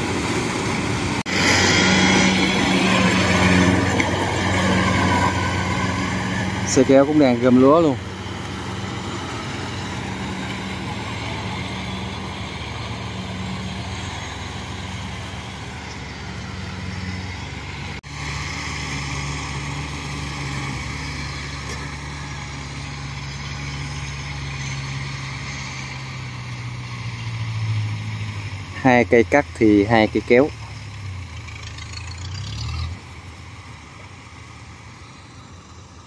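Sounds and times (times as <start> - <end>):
combine harvester diesel engine: 0.0 - 36.0
small tracked carrier engine: 0.0 - 36.0.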